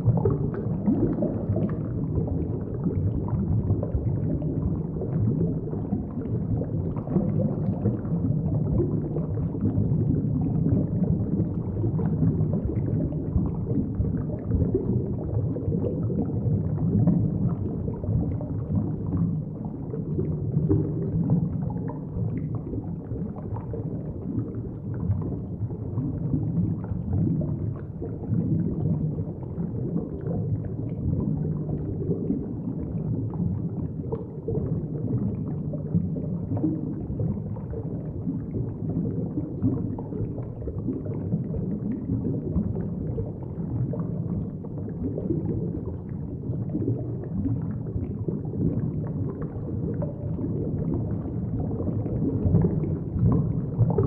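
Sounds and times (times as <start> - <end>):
muffled underwater rumble: 0.0 - 54.0
underwater bubbling: 0.0 - 54.0.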